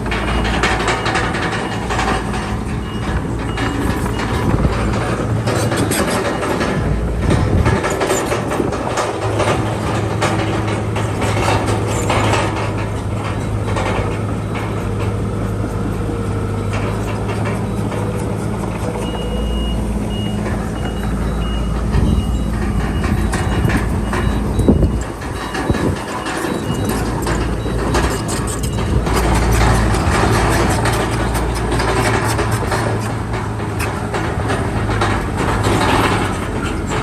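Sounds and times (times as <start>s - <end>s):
reversing alarm beeping: 0.0s - 33.1s
heavy diesel machinery running: 0.0s - 37.0s
machinery clanking: 0.0s - 37.0s.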